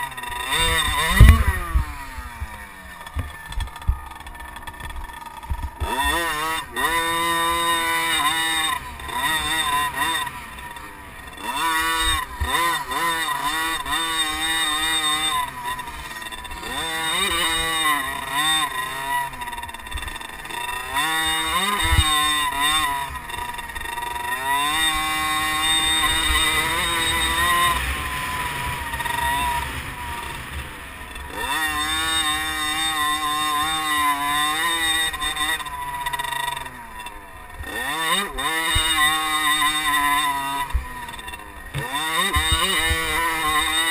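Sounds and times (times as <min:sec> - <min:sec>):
motocross bike engines revving: 0:00.0 - 0:43.9.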